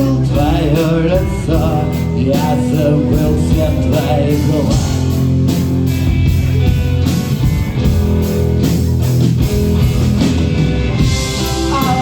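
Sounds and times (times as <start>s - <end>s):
bass guitar: 0.0s - 12.0s
distorted electric guitar chords: 0.0s - 12.0s
steady drum beat: 0.0s - 12.0s.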